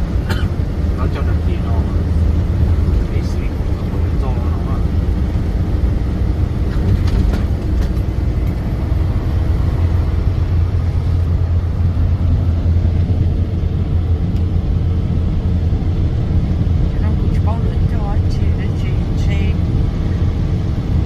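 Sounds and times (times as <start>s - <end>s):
diesel truck engine droning: 0.0s - 21.0s.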